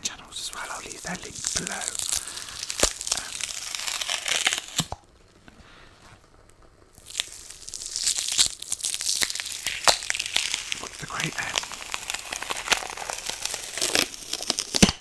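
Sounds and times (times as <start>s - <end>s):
lint roller sheet crackling and tearing: 0.5s - 6.3s, 6.9s - 15.0s.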